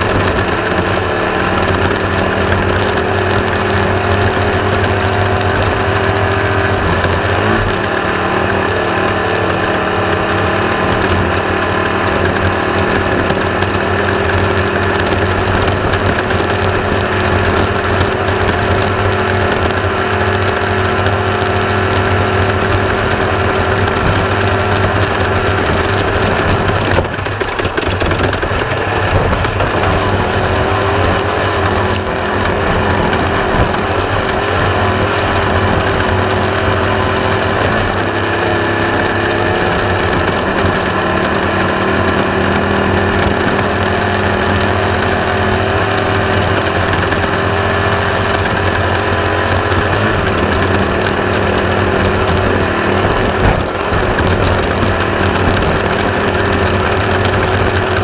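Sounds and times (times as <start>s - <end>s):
off-road buggy engine running hard: 0.0s - 58.0s.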